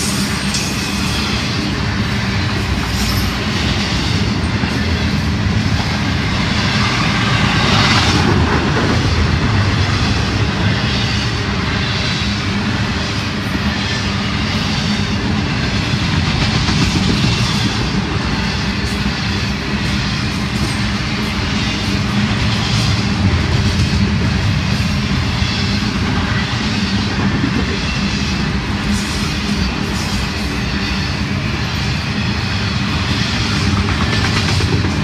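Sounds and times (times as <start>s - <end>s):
steel wheels rumbling on rails: 0.0s - 35.0s.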